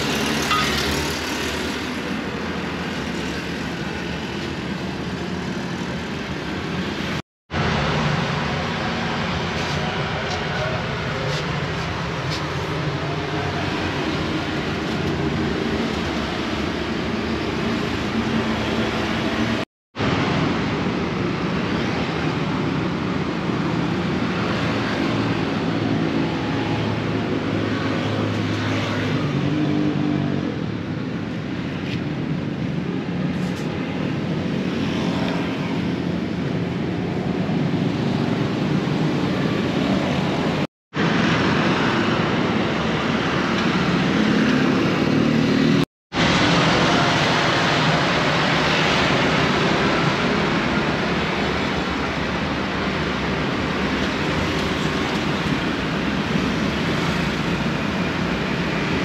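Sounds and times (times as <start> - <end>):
outdoor noise: 0.0 - 59.0
vehicle engines running: 0.0 - 59.0.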